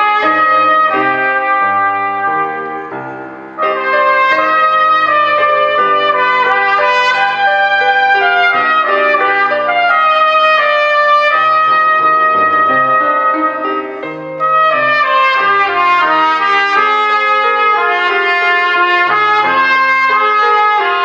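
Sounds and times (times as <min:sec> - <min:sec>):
cornet playing a melody: 0:00.0 - 0:21.0.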